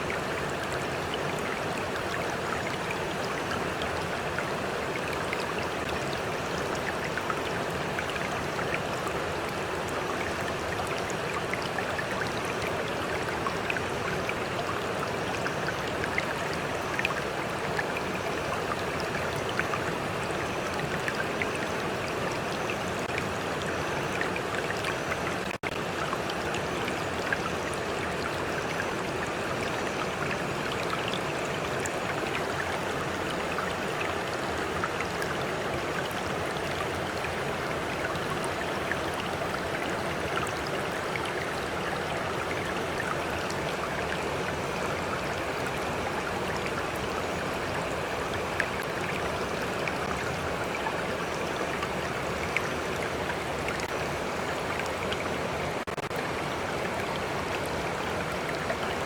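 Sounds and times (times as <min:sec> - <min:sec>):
small water splashes and plinks: 0:00.0 - 0:59.0
stream flowing: 0:00.0 - 0:59.0.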